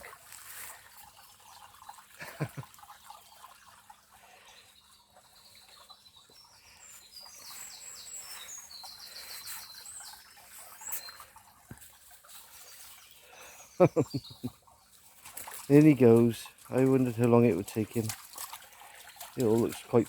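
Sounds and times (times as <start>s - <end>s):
brook babbling and trickling: 0.0s - 20.0s
songbird chirping: 1.0s - 20.0s.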